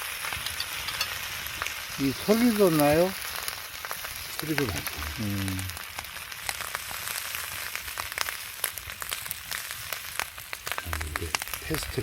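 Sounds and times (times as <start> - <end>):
fire hissing: 0.0 - 12.0
wood fire crackling: 0.0 - 12.0.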